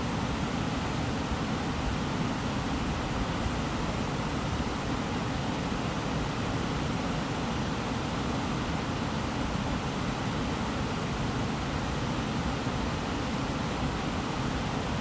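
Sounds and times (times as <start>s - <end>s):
white noise with low rumble: 0.0s - 15.0s.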